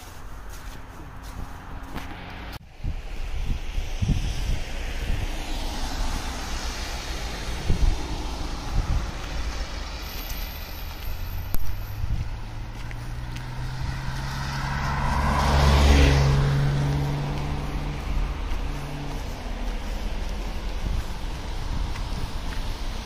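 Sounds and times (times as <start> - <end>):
background road traffic: 0.0 - 23.0
car passing on wet road: 0.0 - 23.0.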